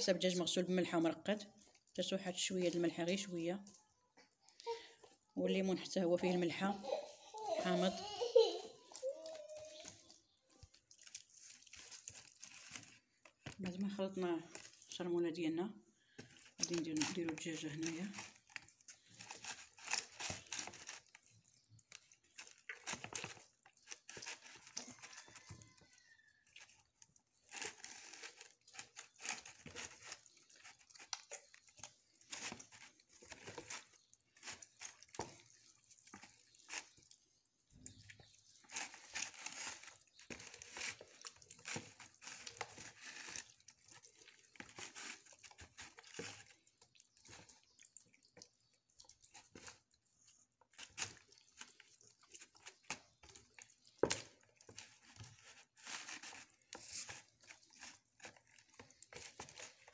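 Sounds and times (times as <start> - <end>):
hands squishing wet marinade: 0.0 - 6.8, 8.7 - 59.9.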